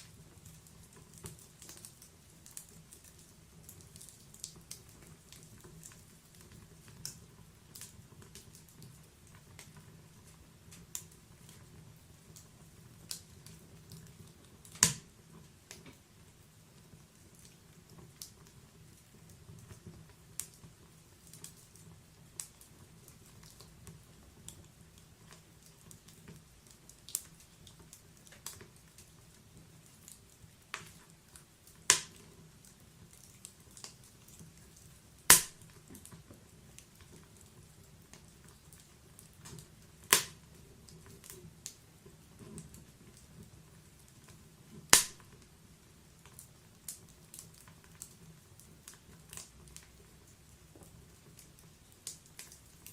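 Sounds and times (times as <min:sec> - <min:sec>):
loud pops of burning logs: 0:00.0 - 0:16.1, 0:16.7 - 0:45.6, 0:46.2 - 0:52.9
wood fire crackling: 0:00.0 - 0:52.9.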